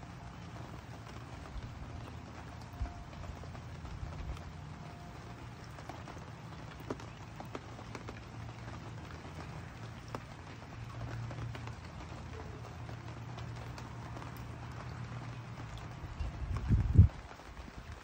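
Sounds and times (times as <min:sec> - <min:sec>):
drips tapping: 0:00.0 - 0:17.8
low steady rumble: 0:00.0 - 0:18.0
rain falling: 0:00.0 - 0:18.0.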